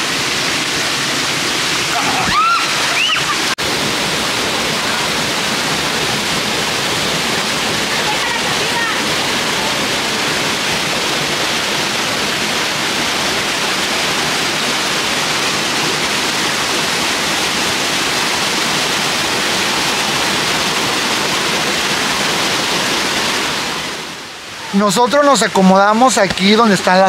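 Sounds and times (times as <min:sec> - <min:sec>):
river rushing: 0:00.0 - 0:27.0.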